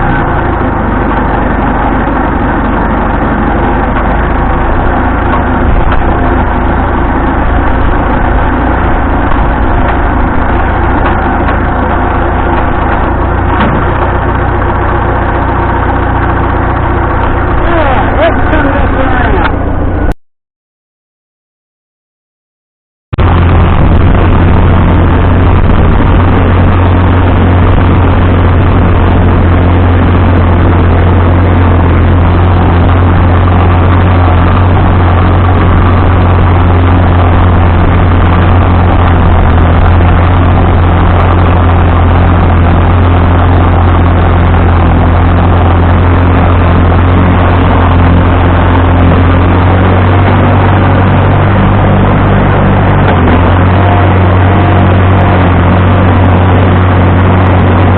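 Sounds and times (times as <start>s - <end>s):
tractor engine humming: 0.0s - 20.2s, 23.2s - 57.9s.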